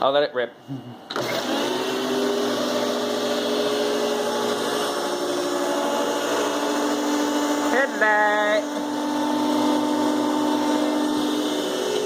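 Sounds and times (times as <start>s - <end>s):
vacuum cleaner motor whine: 1.1s - 12.0s.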